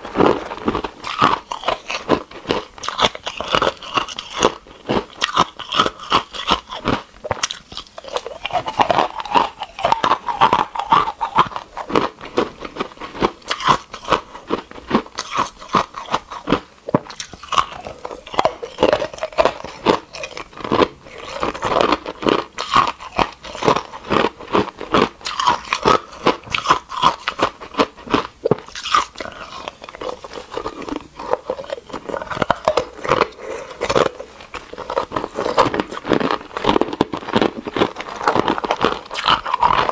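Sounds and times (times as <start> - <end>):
ice cubes crunching between teeth: 0.0 - 39.9.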